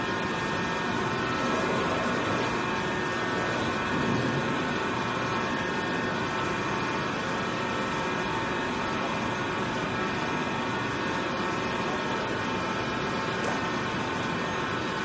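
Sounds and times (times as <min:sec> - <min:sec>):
high-pitched machine whine: 0:00.0 - 0:15.0
tyre cutting machine running: 0:00.0 - 0:15.0.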